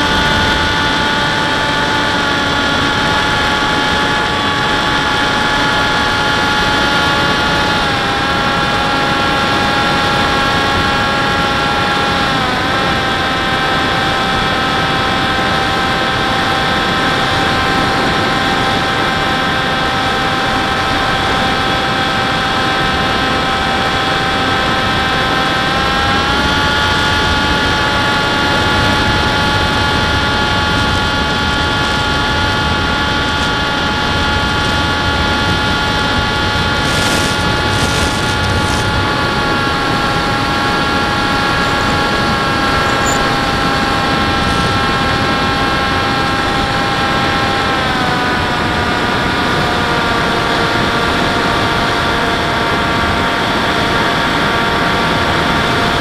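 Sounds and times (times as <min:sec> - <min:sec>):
model airplane motor whine: 0:00.0 - 0:56.0
wind rushing over microphone: 0:00.0 - 0:56.0.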